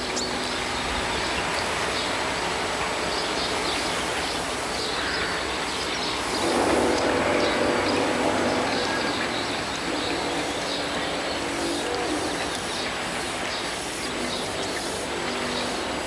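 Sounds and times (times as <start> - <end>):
distant vehicles: 0.0 - 16.0.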